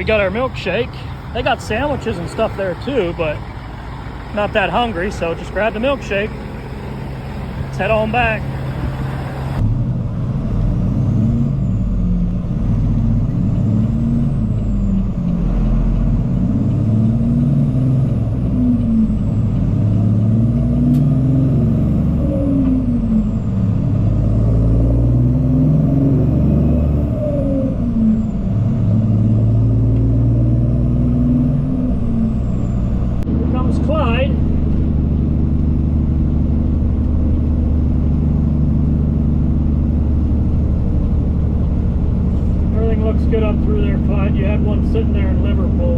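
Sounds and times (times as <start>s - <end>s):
diesel truck engine shifting gears: 0.0s - 45.9s.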